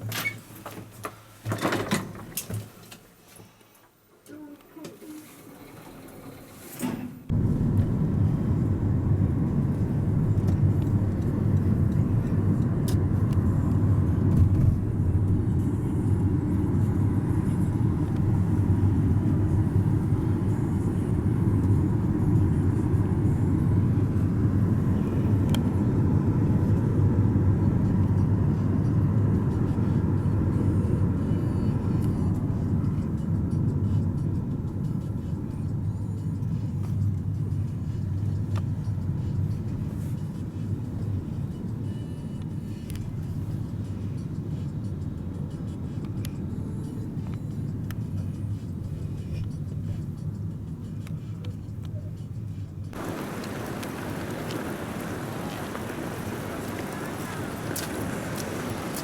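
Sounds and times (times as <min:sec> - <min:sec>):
low vehicle rumble: 0:07.1 - 0:59.0.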